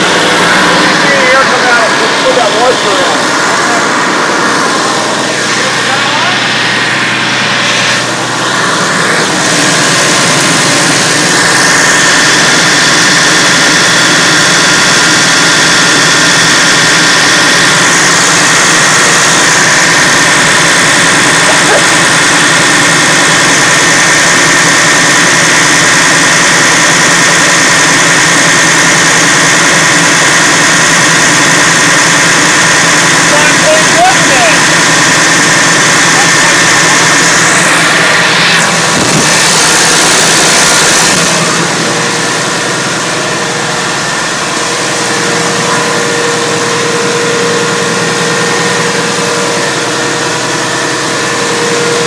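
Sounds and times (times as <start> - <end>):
diesel engine running: 0.0 - 52.0
high whine: 0.0 - 52.0.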